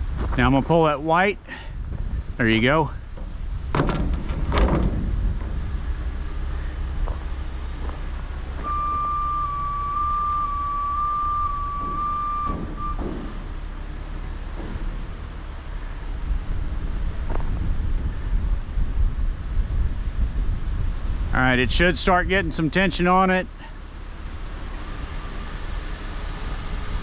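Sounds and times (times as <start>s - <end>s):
heavy diesel engine running: 0.0s - 21.8s, 22.5s - 27.0s
steady high whine: 0.0s - 23.6s.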